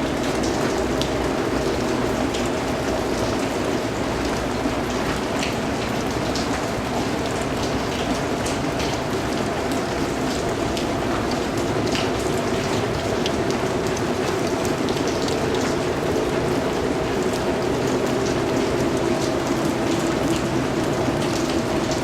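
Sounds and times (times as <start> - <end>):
steady rain patter: 0.0 - 22.0.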